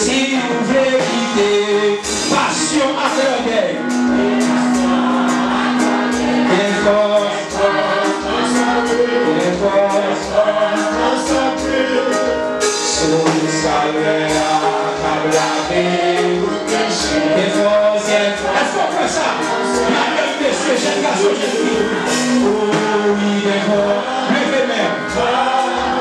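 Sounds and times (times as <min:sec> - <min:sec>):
congregation singing a hymn: 0:00.0 - 0:26.0
steady drum beat: 0:00.0 - 0:26.0.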